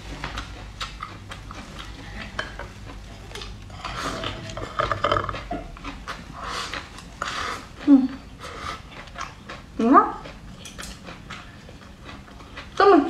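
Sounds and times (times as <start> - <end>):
close-up eating noises: 0.0 - 13.0.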